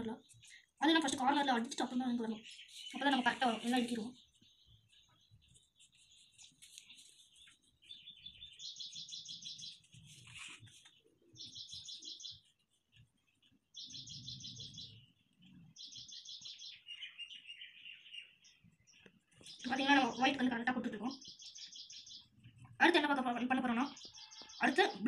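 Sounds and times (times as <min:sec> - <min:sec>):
bird chirping and trilling: 0:00.0 - 0:25.0.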